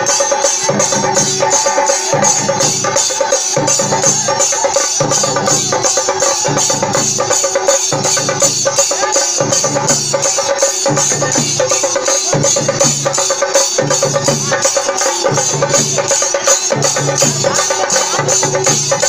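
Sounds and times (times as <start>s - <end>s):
barrel drums beaten with sticks: 0.0s - 19.0s.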